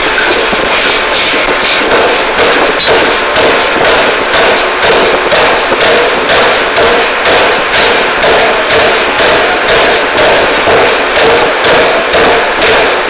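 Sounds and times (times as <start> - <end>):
forging hammer striking hot metal: 0.0 - 13.0.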